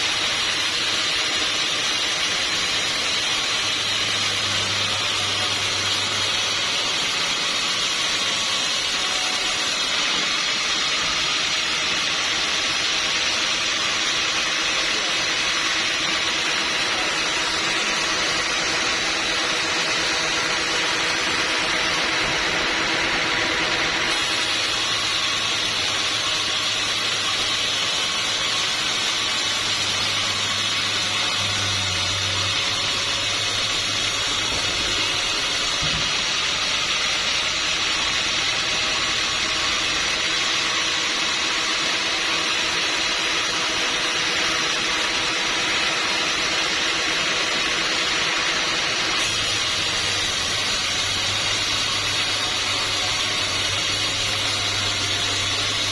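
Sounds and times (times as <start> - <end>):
band saw whirring: 0.0 - 55.9.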